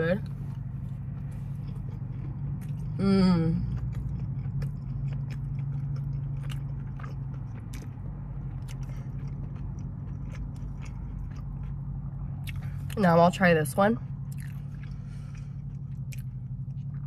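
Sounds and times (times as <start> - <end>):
steady low hum: 0.0 - 17.0
person chewing: 0.2 - 13.0, 14.1 - 17.0.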